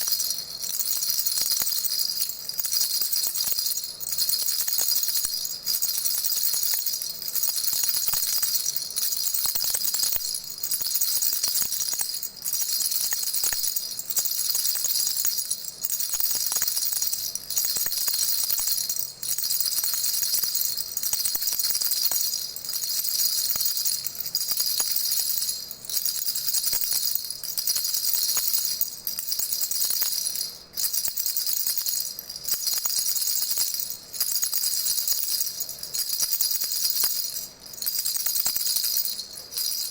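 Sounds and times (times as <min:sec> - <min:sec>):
rattle bells jingling: 0:00.0 - 0:39.9.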